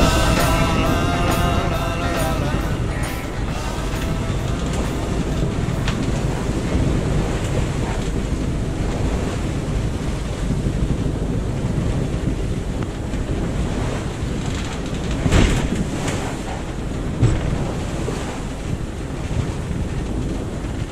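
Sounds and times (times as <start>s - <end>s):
water rushing against hull: 0.0s - 20.9s
wind buffeting microphone: 0.0s - 20.9s.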